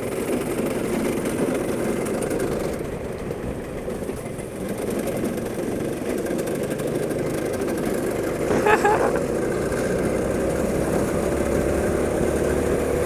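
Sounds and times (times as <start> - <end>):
go-kart engine droning: 0.0 - 13.0.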